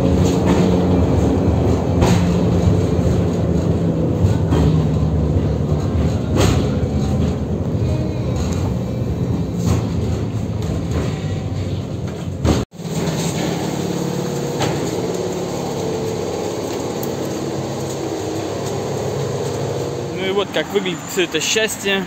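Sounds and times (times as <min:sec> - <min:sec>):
rail car running: 0:00.0 - 0:22.0.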